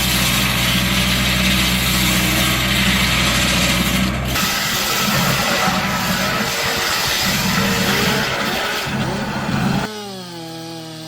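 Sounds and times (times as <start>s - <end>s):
wood-cutting machinery droning: 0.0s - 11.0s.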